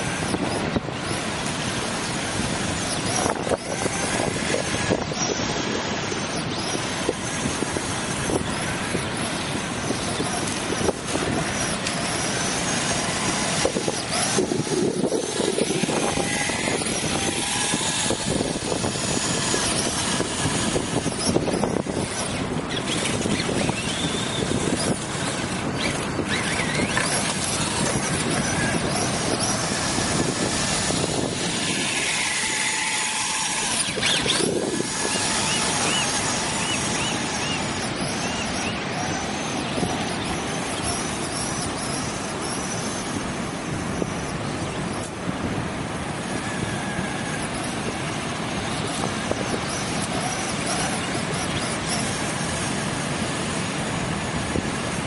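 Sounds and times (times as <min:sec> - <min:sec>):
rushing background noise: 0:00.0 - 0:55.0
toy electric motor whining: 0:00.0 - 0:55.0.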